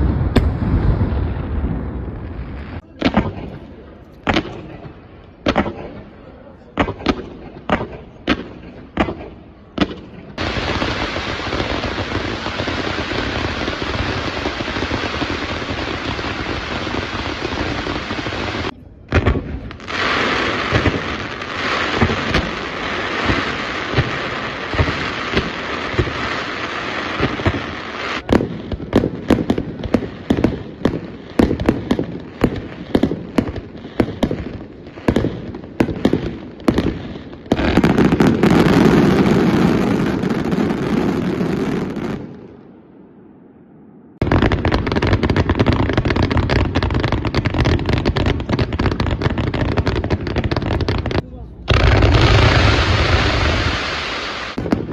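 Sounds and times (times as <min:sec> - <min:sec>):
fireworks crackling and banging: 0:00.0 - 0:42.8, 0:44.2 - 0:54.9.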